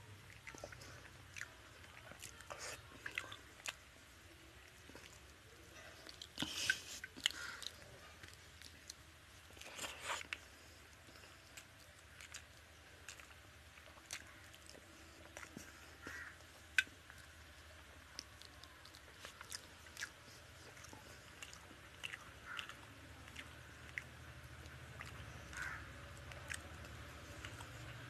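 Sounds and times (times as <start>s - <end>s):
person chewing food: 0.2s - 3.9s, 4.5s - 28.0s.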